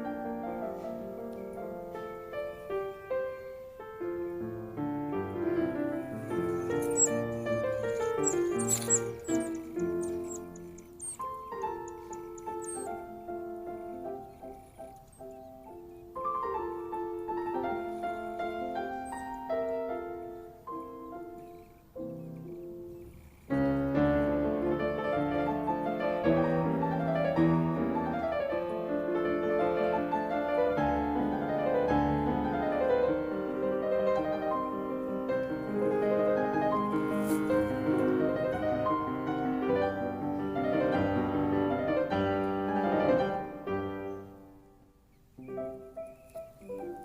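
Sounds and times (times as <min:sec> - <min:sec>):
piano melody: 0:00.0 - 0:47.0.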